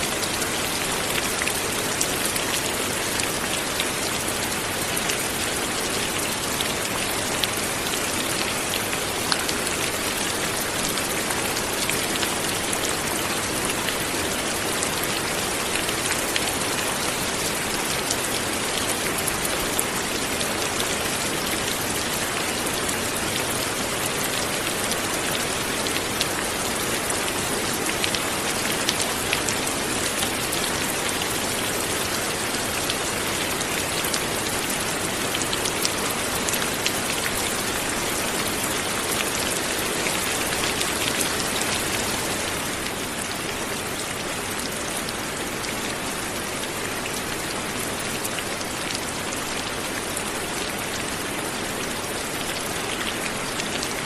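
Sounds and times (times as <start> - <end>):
light rain pattering: 0.0 - 54.0.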